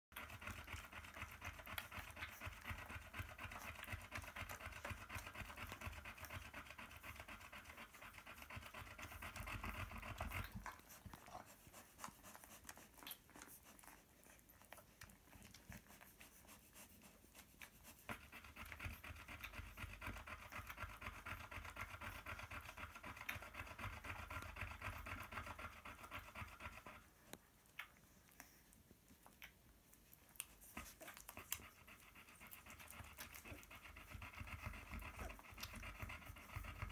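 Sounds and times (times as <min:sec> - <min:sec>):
dog panting: 0:00.1 - 0:36.9.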